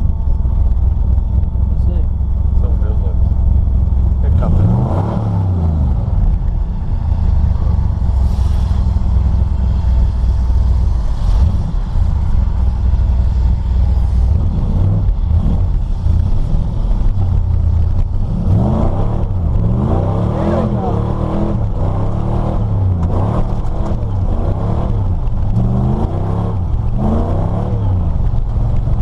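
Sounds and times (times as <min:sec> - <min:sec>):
pickup engine running: 0:00.0 - 0:29.0.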